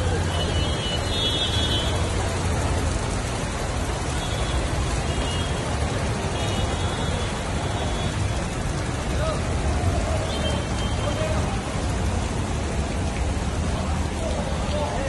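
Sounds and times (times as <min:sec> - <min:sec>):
low traffic rumble: 0:00.0 - 0:15.0
rain and water hissing: 0:00.0 - 0:15.0.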